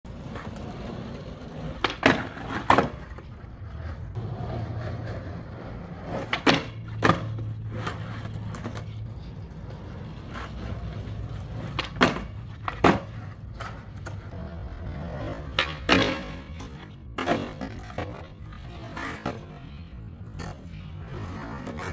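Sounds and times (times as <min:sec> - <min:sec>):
skateboard wheels rolling: 0:00.1 - 0:21.9
skateboard wooden clacks: 0:00.2 - 0:19.8.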